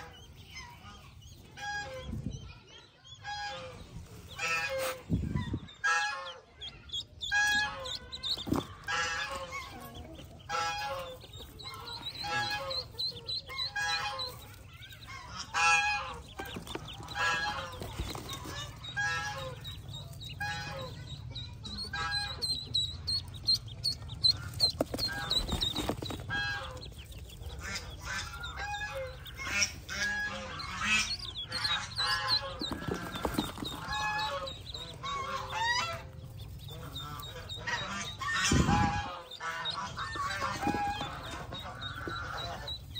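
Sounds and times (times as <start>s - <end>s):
ducklings peeping: 0.0s - 42.9s.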